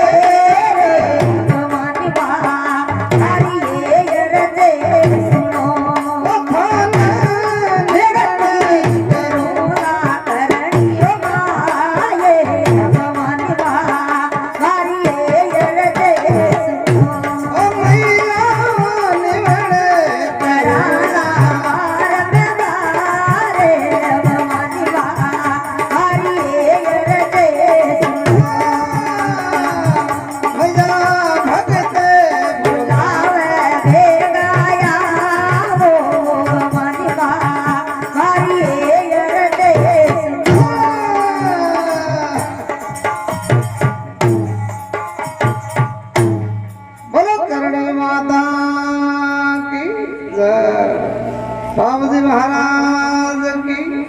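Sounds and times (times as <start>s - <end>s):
steady drum beat: 0.0s - 47.2s.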